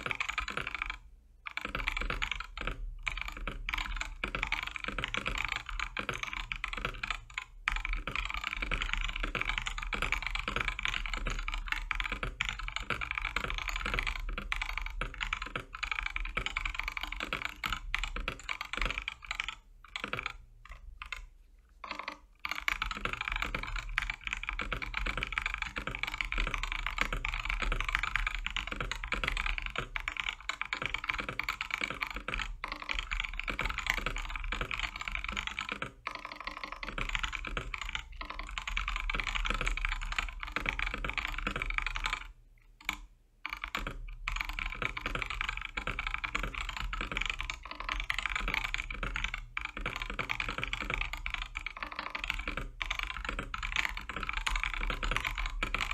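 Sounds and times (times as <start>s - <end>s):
fast typing on mechanical keyboard: 0.0s - 55.9s.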